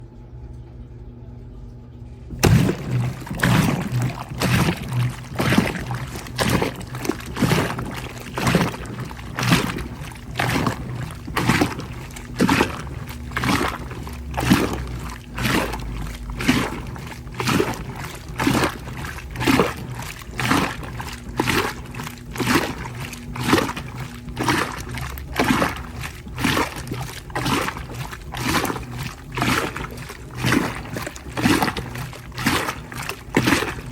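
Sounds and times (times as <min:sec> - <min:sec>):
washing machine low hum: 0:00.0 - 0:33.9
water sloshing in washing machine: 0:02.3 - 0:33.9.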